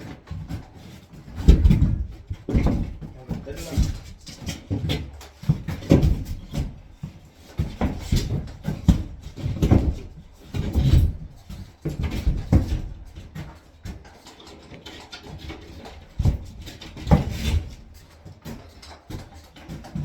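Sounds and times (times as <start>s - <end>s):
drywall sheet thumping and scraping: 0.0s - 14.1s, 14.9s - 20.0s.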